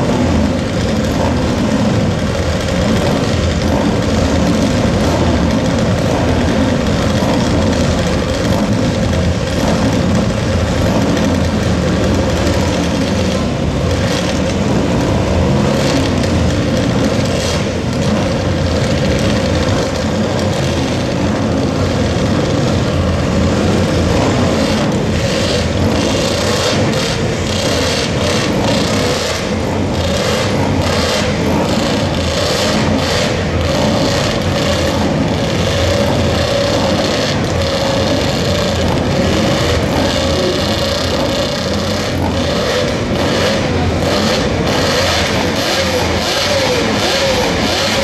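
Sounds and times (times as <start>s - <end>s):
racing engines revving: 0.0s - 48.0s.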